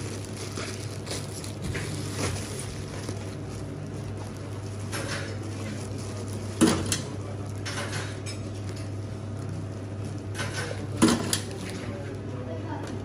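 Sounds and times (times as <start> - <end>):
plastic bag crinkling: 0.0 - 12.5
steady low hum: 0.0 - 13.0.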